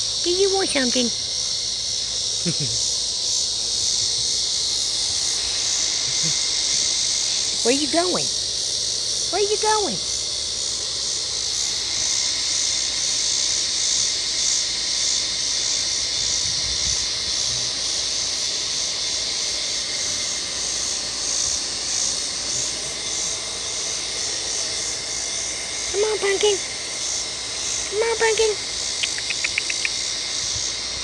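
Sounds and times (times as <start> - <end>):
cicadas droning: 0.0 - 31.0
faint steady hum: 0.0 - 31.0.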